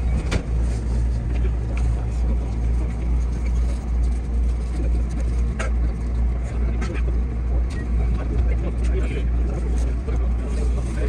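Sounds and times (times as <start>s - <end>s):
train cab rumble and hum: 0.0s - 11.0s.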